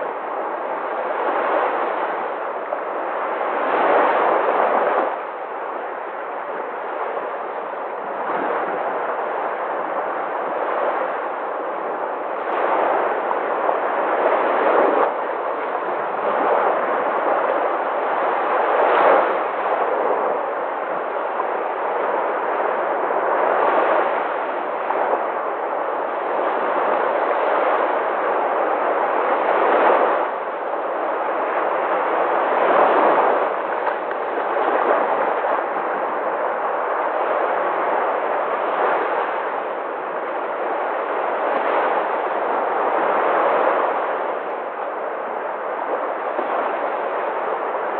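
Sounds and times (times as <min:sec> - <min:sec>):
sea waves breaking: 0:00.0 - 0:47.9.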